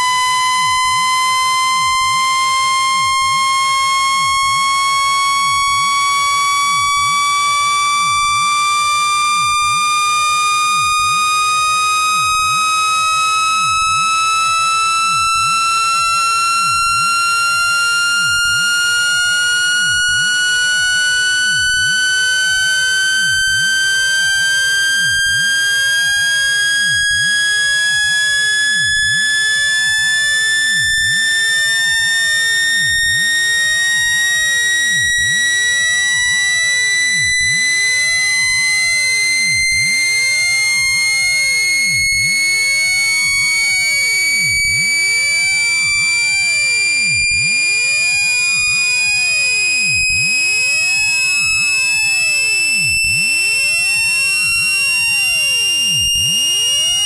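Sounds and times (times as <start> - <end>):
high-pitched buzzy tone rising: 0.0 - 57.0.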